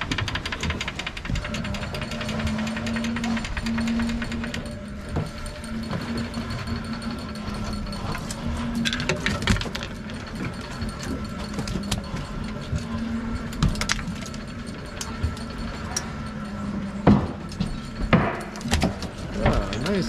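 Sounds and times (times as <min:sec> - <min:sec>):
electric reel ticking: 0:00.0 - 0:20.0
low reel hum: 0:00.0 - 0:20.0.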